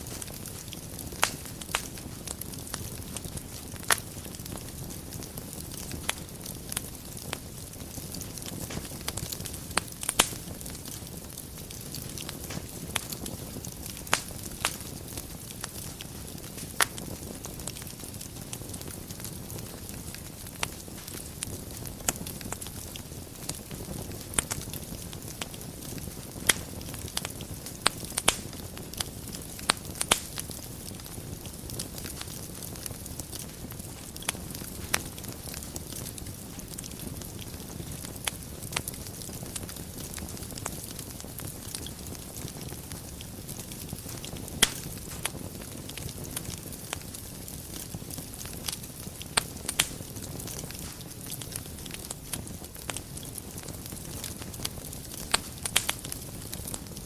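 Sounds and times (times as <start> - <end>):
fire popping: 0.0 - 57.0
wood fire crackling: 0.0 - 57.0.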